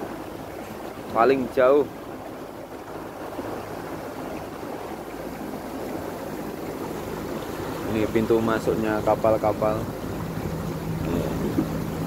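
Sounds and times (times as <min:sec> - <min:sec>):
boat engine running: 0:00.0 - 0:12.0
water rushing along hull: 0:00.0 - 0:12.0.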